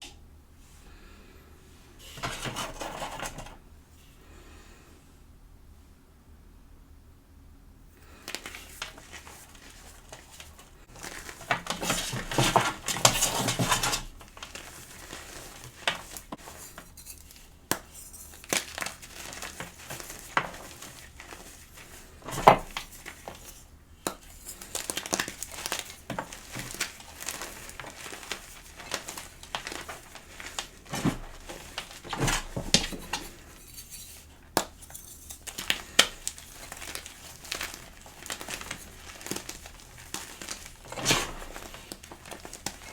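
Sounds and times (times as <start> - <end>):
chalk crunching and crackling: 8.4 - 42.9.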